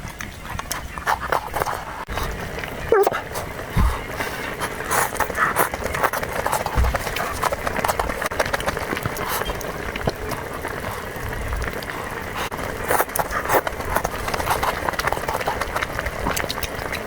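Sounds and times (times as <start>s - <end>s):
wet chewing with mouth clicks: 0.0s - 17.0s.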